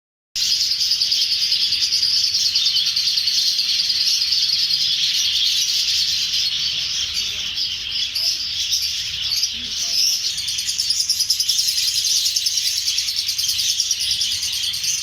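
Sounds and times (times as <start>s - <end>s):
budgerigars chattering: 0.4s - 15.0s.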